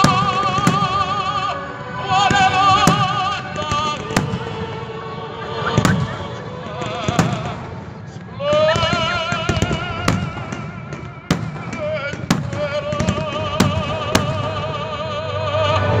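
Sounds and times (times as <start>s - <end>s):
fireworks banging: 0.0s - 4.8s, 5.5s - 15.1s
fireworks crackling: 0.0s - 4.8s, 5.5s - 15.0s
person singing with vibrato: 0.0s - 16.0s.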